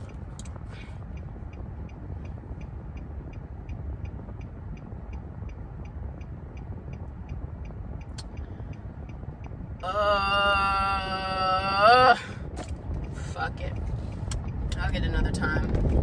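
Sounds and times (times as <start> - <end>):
faint regular ticking: 0.0 - 10.0, 11.0 - 16.0
car road and engine rumble: 0.0 - 16.0.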